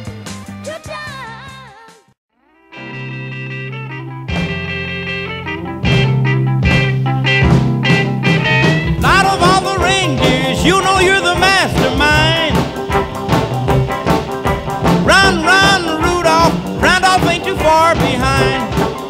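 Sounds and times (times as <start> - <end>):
swing music: 0.0 - 19.0.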